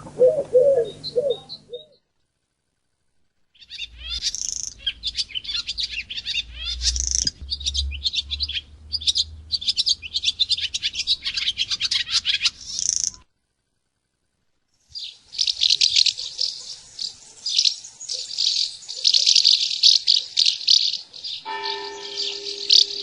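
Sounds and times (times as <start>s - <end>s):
songbird chirping and trilling: 0.0s - 2.1s, 3.5s - 13.3s, 14.8s - 23.0s.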